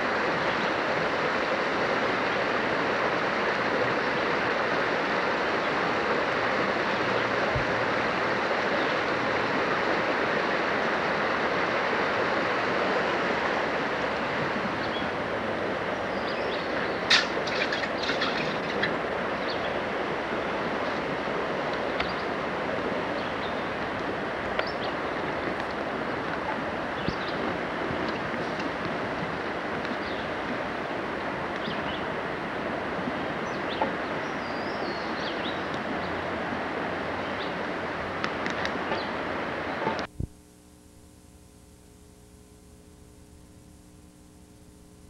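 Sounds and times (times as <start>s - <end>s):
creek water rushing: 0.0s - 40.1s.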